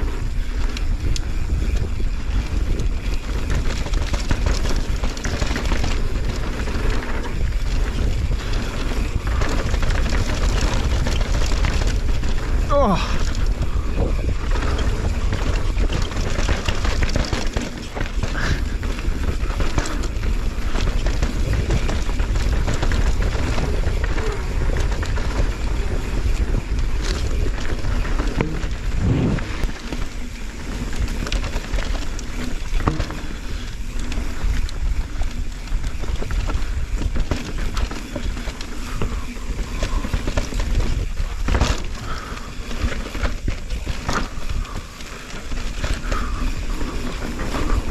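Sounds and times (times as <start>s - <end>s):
bike rattling: 0.0s - 47.9s
bike tyres on dirt: 0.0s - 47.9s
wind rush over microphone: 0.0s - 47.9s.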